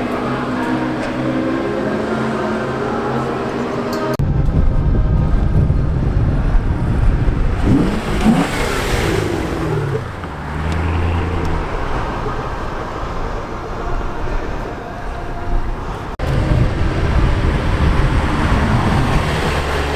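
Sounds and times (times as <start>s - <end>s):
sports car engine accelerating: 0.0s - 4.2s, 5.3s - 14.6s, 15.6s - 19.9s.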